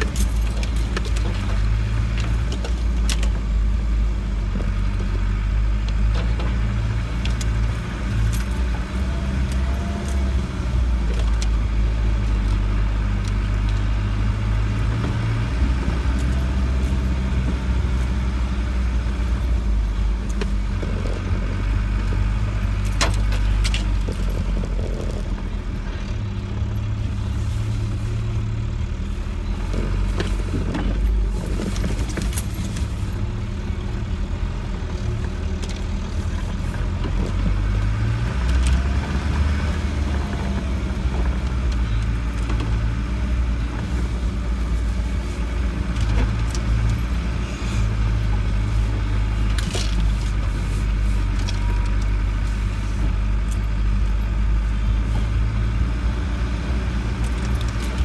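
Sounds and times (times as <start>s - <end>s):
bodywork rattles and clicks: 0.0s - 3.7s, 4.3s - 27.4s, 29.5s - 33.5s, 34.6s - 55.4s, 56.8s - 58.0s
car engine drone: 0.0s - 58.0s.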